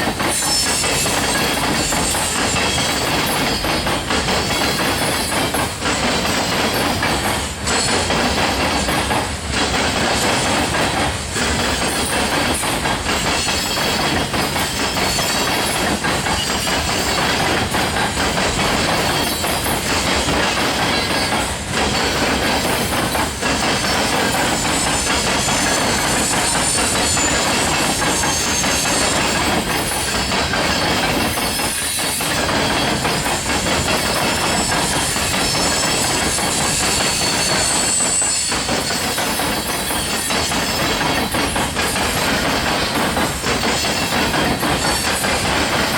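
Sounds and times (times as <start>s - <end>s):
freight train rolling past: 0.0s - 45.9s
steel wheels clattering on rail: 0.0s - 45.9s.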